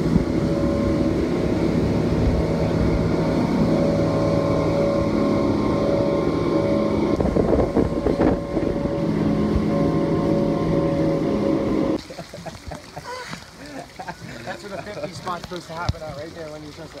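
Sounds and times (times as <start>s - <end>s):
motorboat engine hum: 0.0s - 17.0s
wind and water spray: 0.0s - 17.0s.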